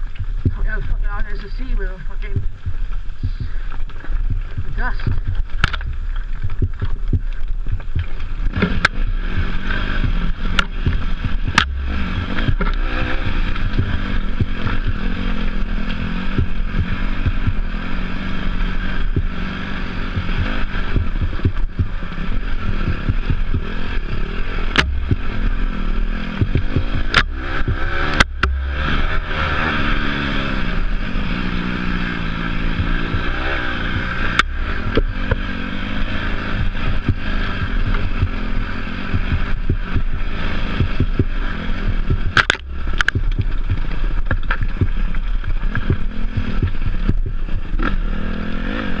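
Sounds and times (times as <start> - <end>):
off-road motorcycle engine running: 0.0 - 49.0
wind rush on microphone: 0.0 - 49.0.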